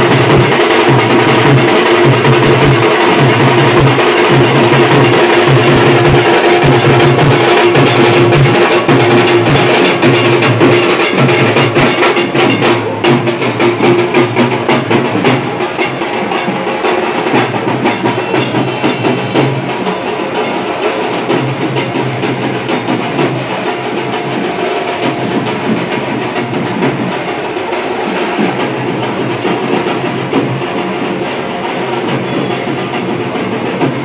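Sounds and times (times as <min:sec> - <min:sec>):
drums in fast loud rhythm: 0:00.0 - 0:34.0.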